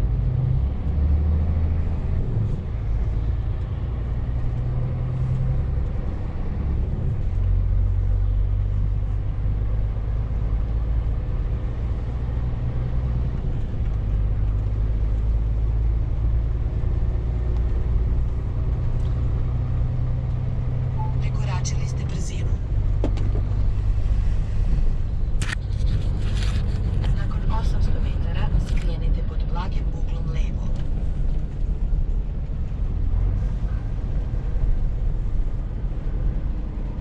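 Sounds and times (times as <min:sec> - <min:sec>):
road noise: 0:00.0 - 0:37.0.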